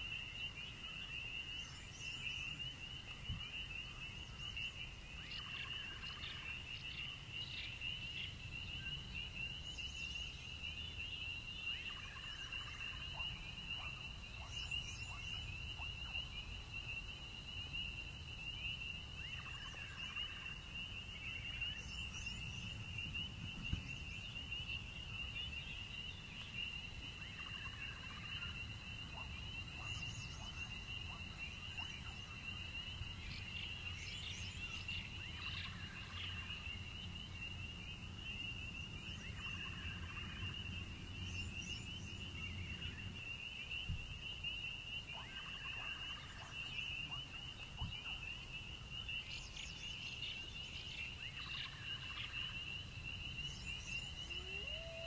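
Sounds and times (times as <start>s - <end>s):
cricket chorus trilling: 0.0s - 55.0s.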